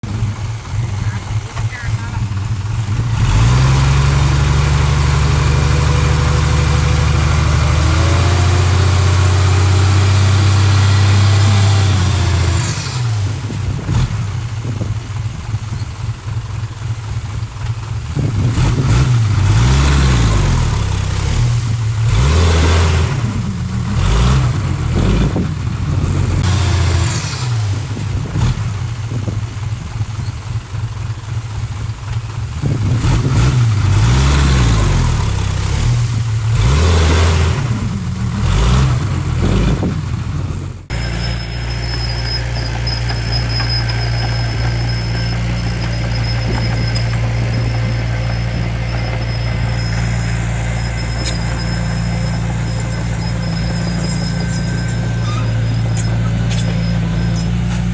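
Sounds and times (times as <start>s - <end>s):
diesel engine revving: 0.0s - 57.9s.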